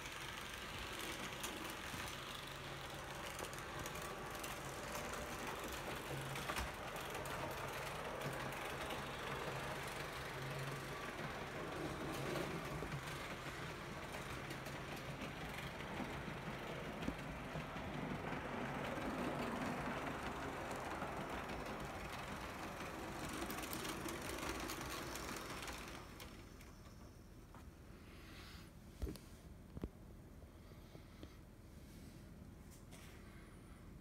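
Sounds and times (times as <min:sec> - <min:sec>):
model trains running on rails: 0:00.0 - 0:27.6.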